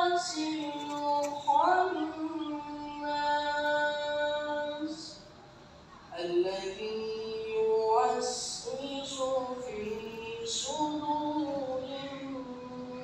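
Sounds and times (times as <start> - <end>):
person chanting over loudspeaker: 0.0 - 5.2, 6.1 - 13.0.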